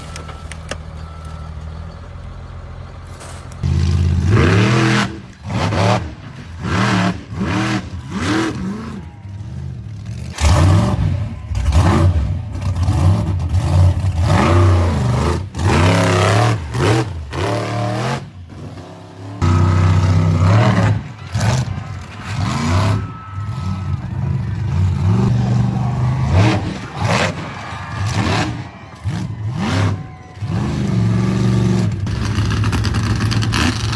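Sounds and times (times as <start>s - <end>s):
monster truck engines revving: 0.0s - 33.9s.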